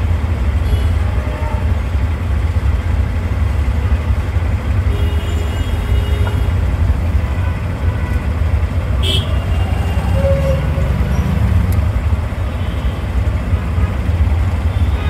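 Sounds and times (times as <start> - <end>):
auto-rickshaw engine rumble: 0.0 - 15.0
road noise: 0.0 - 15.0.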